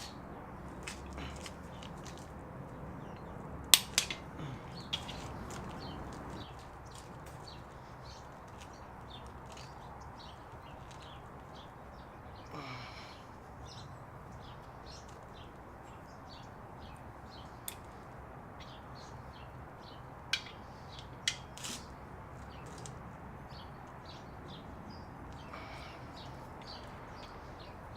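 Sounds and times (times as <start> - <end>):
steady background noise: 0.0 - 27.9.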